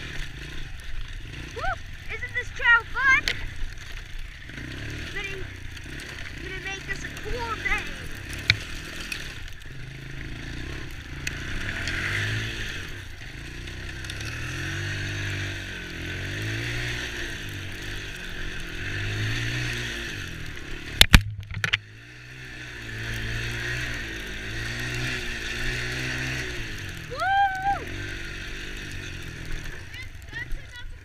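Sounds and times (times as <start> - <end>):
small atv engine revving: 0.0 - 31.0.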